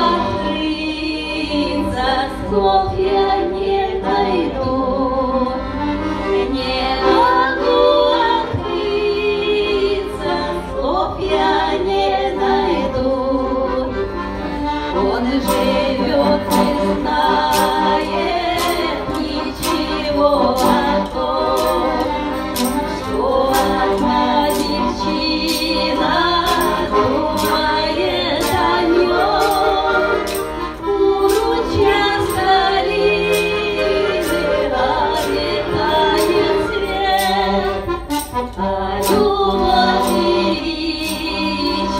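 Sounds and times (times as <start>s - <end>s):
women singing: 0.0s - 5.8s, 6.4s - 14.2s, 14.8s - 41.9s
accordion: 0.0s - 41.9s.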